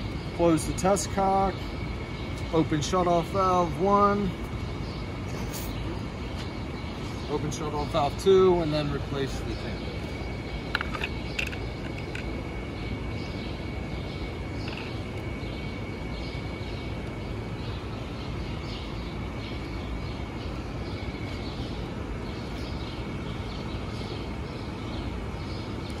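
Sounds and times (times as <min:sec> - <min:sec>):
low city rumble: 0:00.0 - 0:26.0
small birds chirping: 0:00.0 - 0:26.0.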